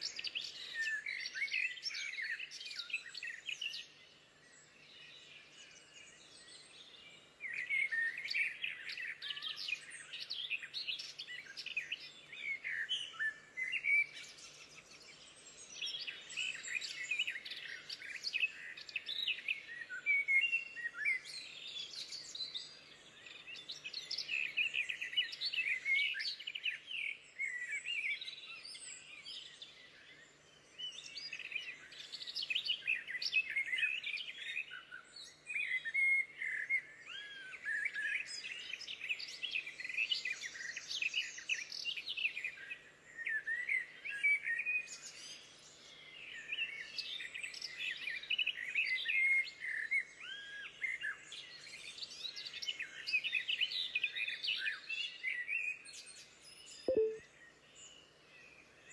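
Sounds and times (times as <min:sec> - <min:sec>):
small birds singing: 0:00.0 - 0:58.9.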